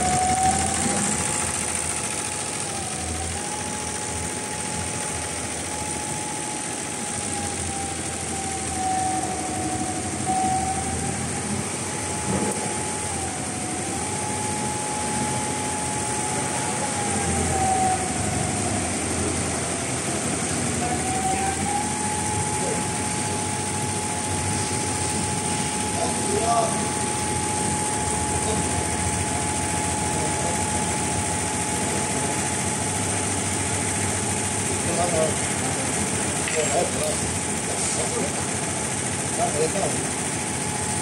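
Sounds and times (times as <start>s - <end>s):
embroidery machine clattering: 0.0s - 41.0s
high motor whine: 0.0s - 41.0s.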